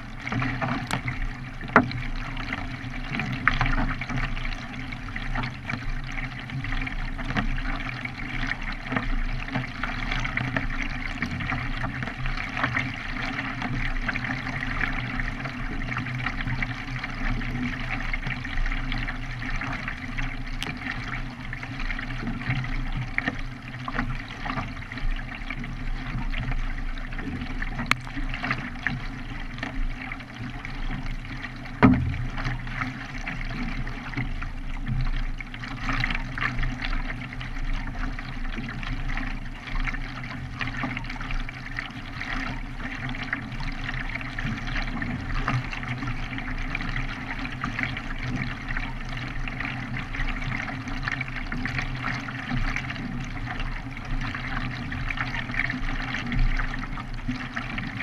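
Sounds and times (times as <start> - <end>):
water splashing from paddling: 0.0 - 58.0.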